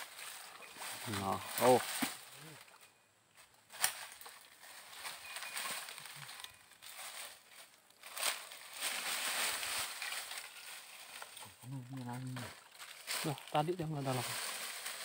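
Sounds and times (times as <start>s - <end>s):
footsteps on dry twigs and leaves: 0.0s - 15.0s.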